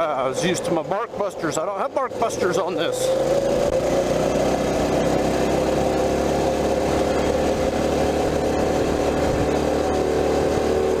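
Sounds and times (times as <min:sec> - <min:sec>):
mini bike engine running: 0:00.4 - 0:11.0.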